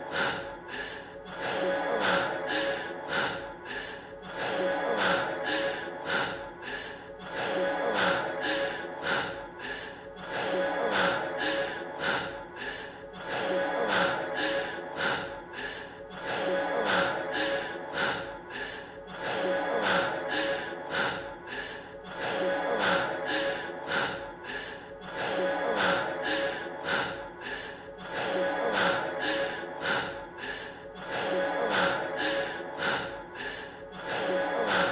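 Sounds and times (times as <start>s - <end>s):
man panting heavily: 0.0s - 34.9s
quiet sustained musical tone: 0.0s - 34.9s.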